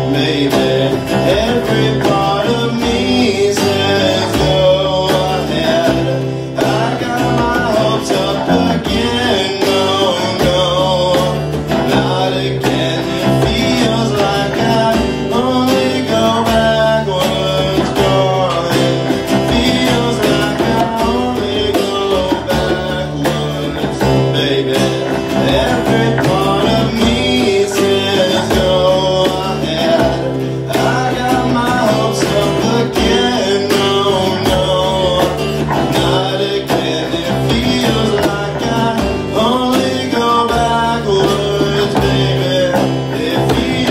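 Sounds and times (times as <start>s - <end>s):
acoustic guitars strummed: 0.0s - 43.9s
hand drum: 0.0s - 43.9s
man singing: 0.0s - 43.9s.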